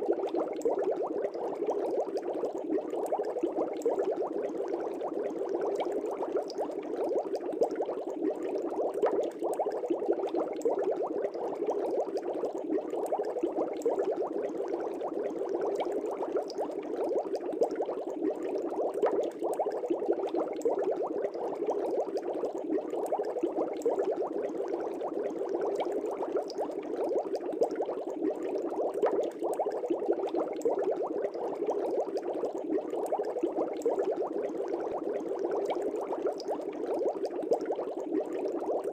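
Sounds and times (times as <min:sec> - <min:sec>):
aquarium air bubbles bursting: 0:00.0 - 0:38.9.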